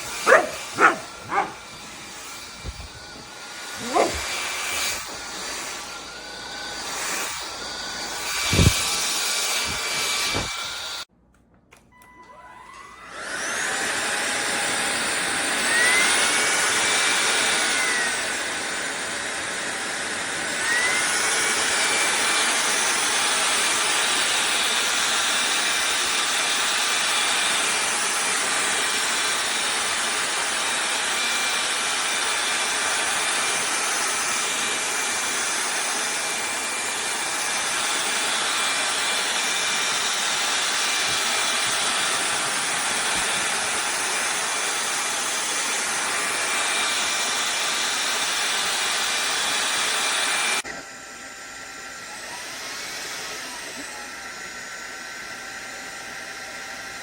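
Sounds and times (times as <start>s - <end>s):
stick vacuum whining: 0.0s - 11.1s, 11.7s - 57.0s.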